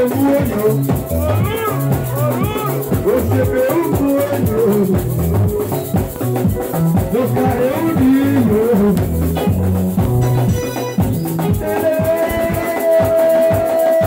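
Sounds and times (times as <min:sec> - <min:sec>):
bass notes: 0:00.0 - 0:12.6
sliding melody line: 0:00.0 - 0:13.6
shaker rhythm: 0:00.0 - 0:14.0.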